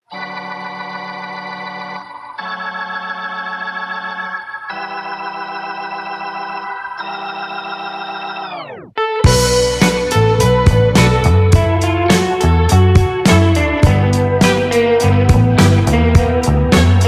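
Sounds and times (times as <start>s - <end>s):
organ-like keyboard chords: 0.0s - 17.0s.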